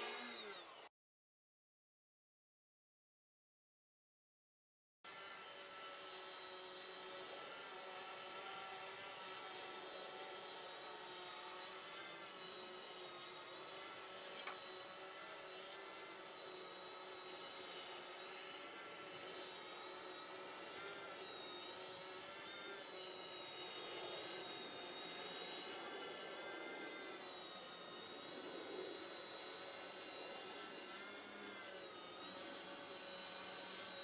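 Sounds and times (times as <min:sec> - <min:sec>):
drone motors whining: 0:00.0 - 0:00.9, 0:05.1 - 0:34.0.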